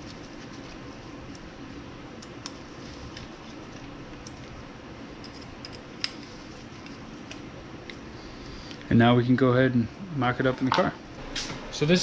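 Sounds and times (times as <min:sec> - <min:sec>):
low shop hum: 0:00.0 - 0:12.0.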